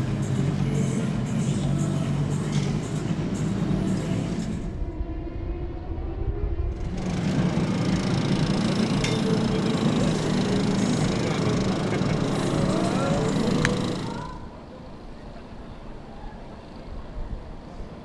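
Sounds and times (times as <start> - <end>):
racing motorcycle engines droning: 0.0 - 18.0.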